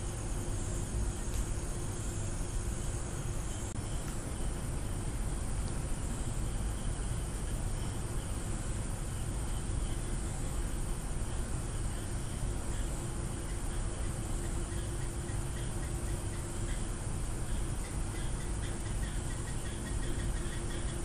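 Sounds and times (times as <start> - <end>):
even hiss: 0.0 - 21.0.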